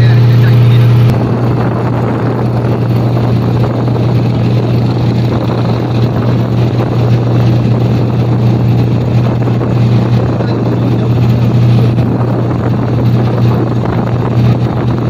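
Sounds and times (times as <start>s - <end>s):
motorboat engine droning: 0.0s - 15.0s
rushing water and wind: 0.0s - 15.0s.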